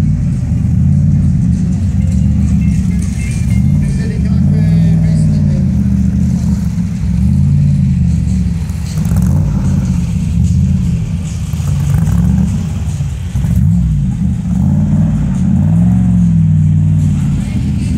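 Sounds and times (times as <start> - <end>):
car engine revving lightly: 0.0 - 17.9.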